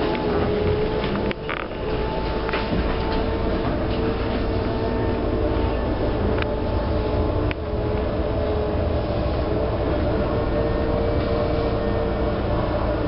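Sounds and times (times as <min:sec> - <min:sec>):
constant hum: 0:00.0 - 0:13.0
trolleybus low rumble: 0:00.0 - 0:13.0.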